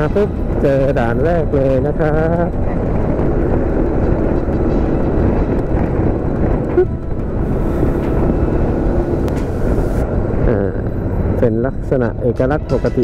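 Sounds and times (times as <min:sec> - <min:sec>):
wind rushing over microphone: 0:00.0 - 0:11.9.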